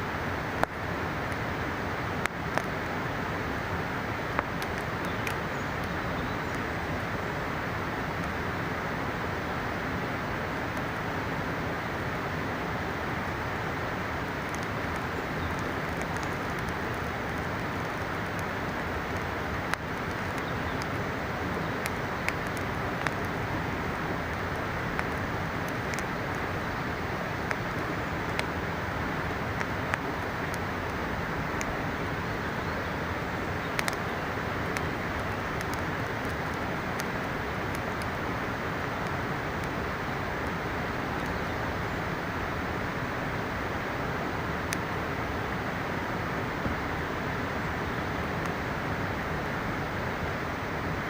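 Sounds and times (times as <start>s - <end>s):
campfire crackling: 0.0s - 51.0s
river rushing: 0.0s - 51.0s.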